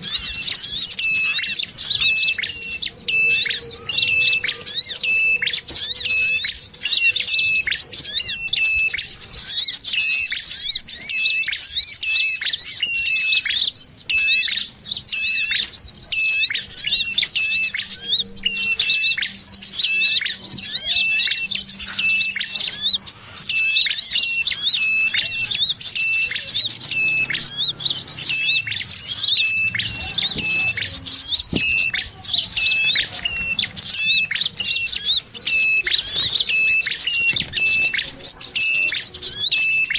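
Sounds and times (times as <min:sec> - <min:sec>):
songbirds scolding chatter: 0:00.0 - 0:39.9.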